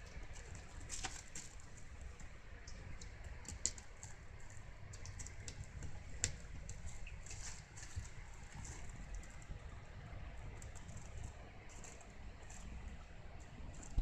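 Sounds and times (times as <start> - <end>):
kitten claws clicking on wicker: 0.0 - 9.5, 10.5 - 14.0.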